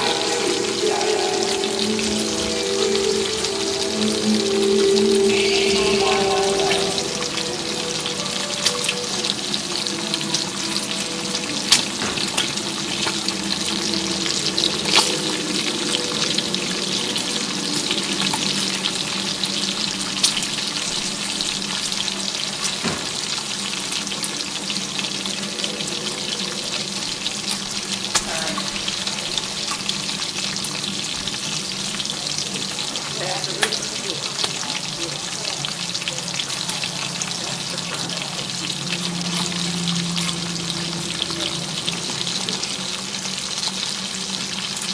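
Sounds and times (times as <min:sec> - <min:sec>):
crackling sizzling hiss: 0:00.0 - 0:44.9.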